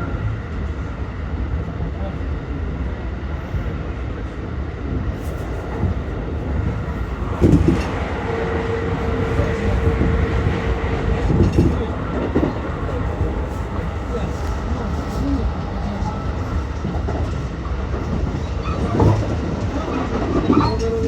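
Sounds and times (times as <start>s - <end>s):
train rail rumble: 0.0s - 21.0s.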